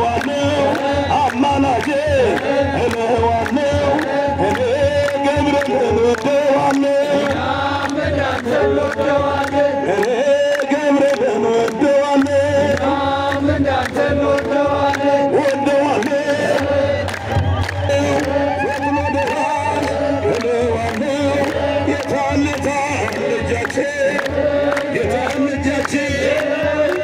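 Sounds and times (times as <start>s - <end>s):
beaten drum: 0.0s - 10.6s, 11.5s - 27.0s
group chanting a hymn: 0.0s - 27.0s.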